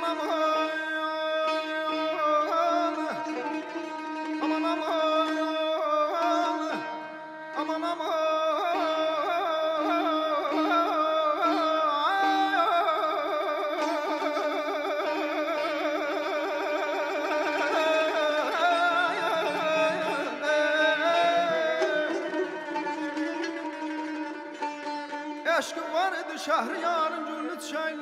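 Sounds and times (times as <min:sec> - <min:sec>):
man singing: 0:00.0 - 0:03.4, 0:04.4 - 0:23.9, 0:25.4 - 0:28.0
stringed instrument accompaniment: 0:00.0 - 0:28.0.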